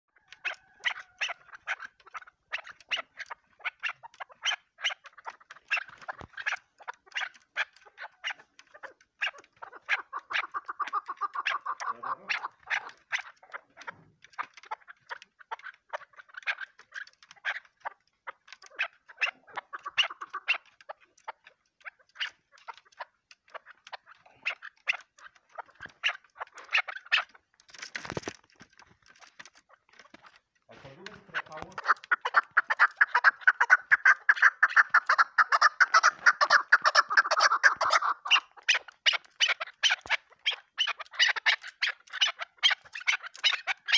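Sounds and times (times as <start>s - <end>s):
partridge clucking calls: 0.1s - 43.9s.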